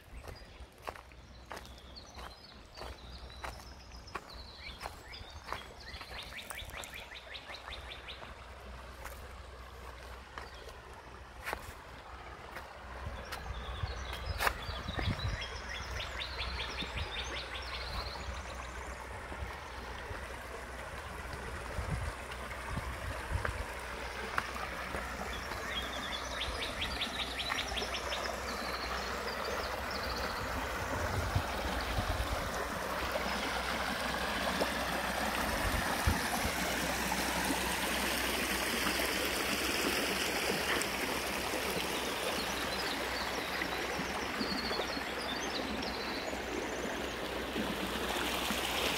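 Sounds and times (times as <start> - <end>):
creek water trickling over stones: 0.0 - 48.9.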